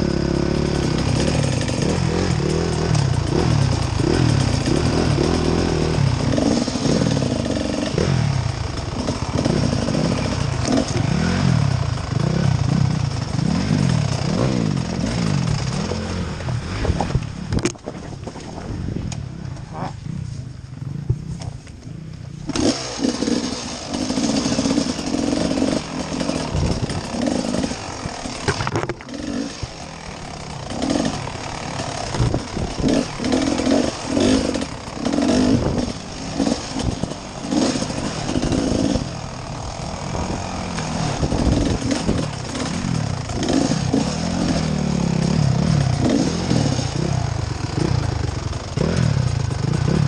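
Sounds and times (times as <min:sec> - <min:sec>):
dirt bike engine revving: 0:00.0 - 0:17.7, 0:18.3 - 0:50.0.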